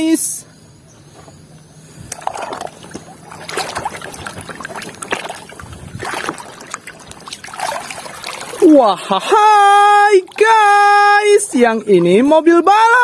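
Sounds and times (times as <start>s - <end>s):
water splashing and sloshing: 1.1s - 13.0s.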